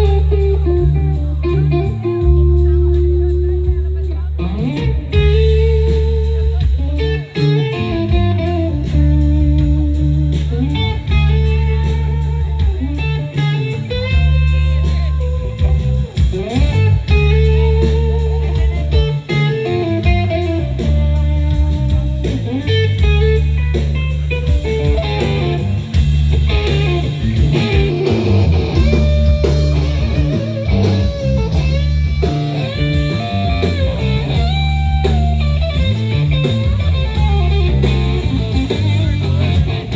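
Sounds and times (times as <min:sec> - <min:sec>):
drums: 0:00.0 - 0:39.9
electric guitar melody: 0:00.0 - 0:39.9
heavy bass notes: 0:00.0 - 0:39.9.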